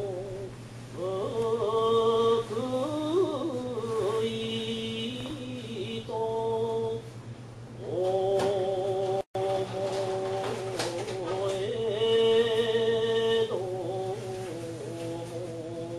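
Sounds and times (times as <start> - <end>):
chant-like singing: 0.0 - 7.1, 7.8 - 15.9
steady low hum: 0.0 - 15.9.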